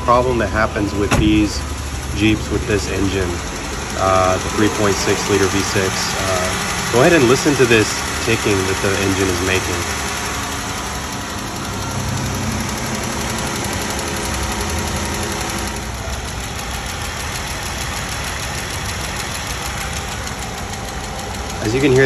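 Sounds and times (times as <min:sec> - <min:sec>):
car engine idling with ticking: 0:00.0 - 0:22.0.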